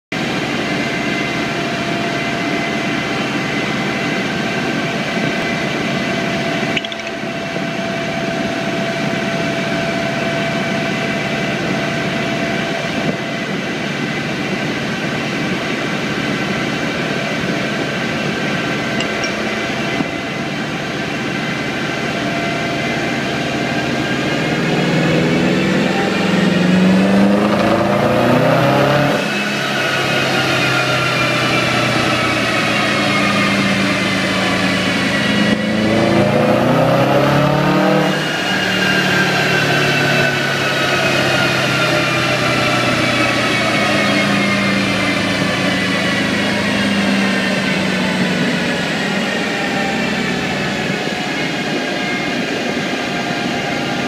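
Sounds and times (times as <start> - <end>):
car engine revving on dyno: 0.1 - 54.0.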